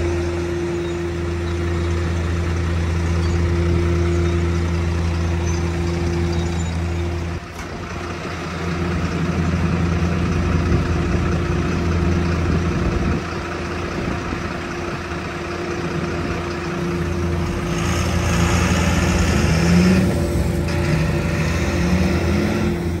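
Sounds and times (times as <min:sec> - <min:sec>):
diesel truck engine idling and revving: 0:00.0 - 0:23.0.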